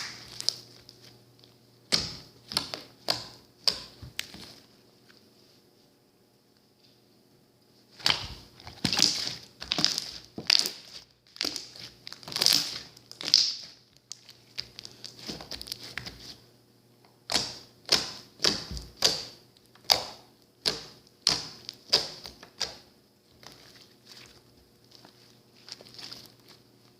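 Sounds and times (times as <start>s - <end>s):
slime squishing: 0.0s - 4.8s, 7.9s - 16.4s, 17.2s - 26.9s.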